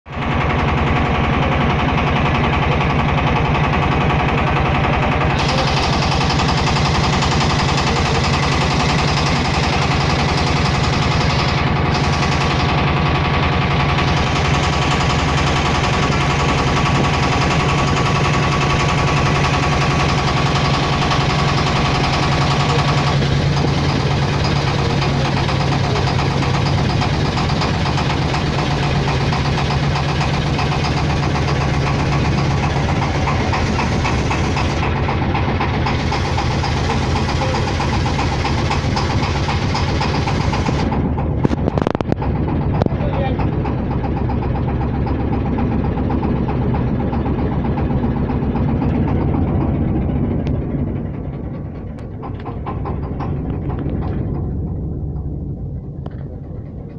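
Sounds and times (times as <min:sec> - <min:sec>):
engine running with fast throb: 0:00.1 - 0:56.9.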